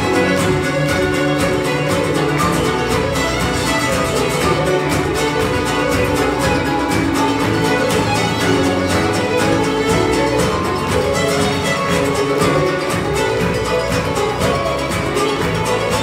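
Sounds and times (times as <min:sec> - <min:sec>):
fiddle ensemble playing: 0:00.0 - 0:16.0
guitars and keyboard: 0:00.0 - 0:16.0.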